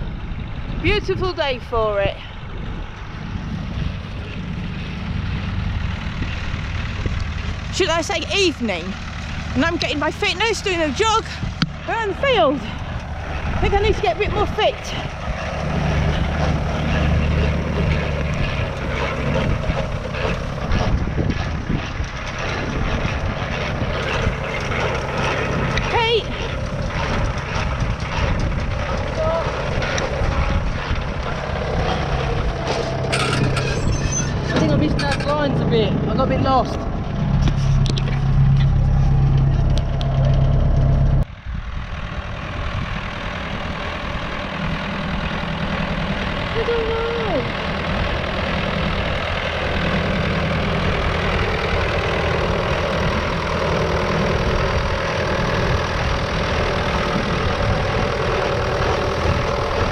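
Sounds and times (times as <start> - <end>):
tractor engine humming: 0.0 - 59.9.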